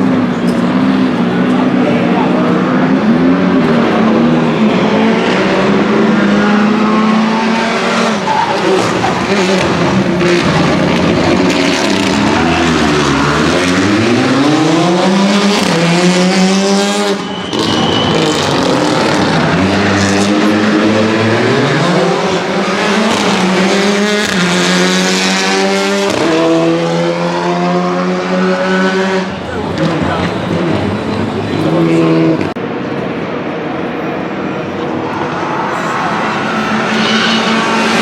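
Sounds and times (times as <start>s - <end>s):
rally car engine revving: 0.0s - 33.6s, 34.2s - 38.0s.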